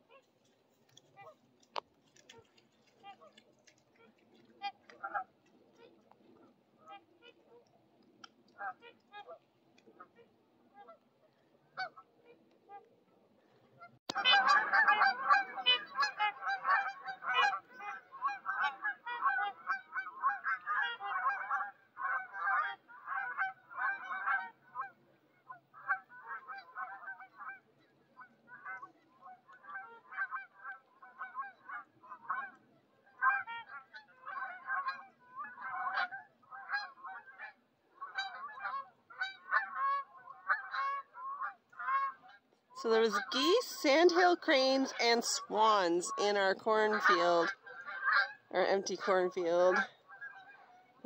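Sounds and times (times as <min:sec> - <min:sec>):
geese honking: 0:02.1 - 0:06.2, 0:11.7 - 0:12.9, 0:13.8 - 0:51.0.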